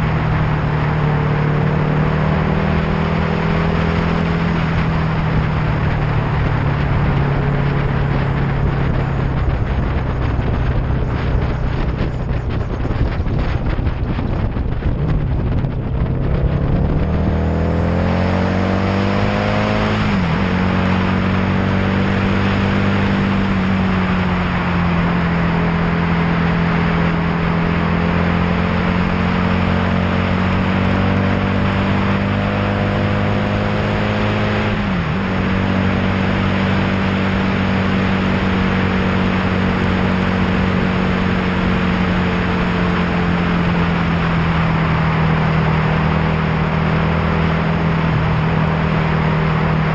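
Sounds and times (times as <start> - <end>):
road and wind noise: 0.0 - 49.9
vehicle engine revving: 0.0 - 49.9.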